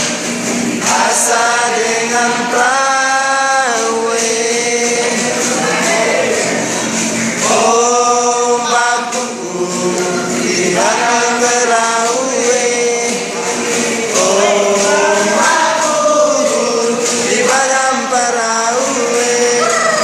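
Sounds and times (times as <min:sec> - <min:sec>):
group of voices chanting: 0:00.8 - 0:20.0.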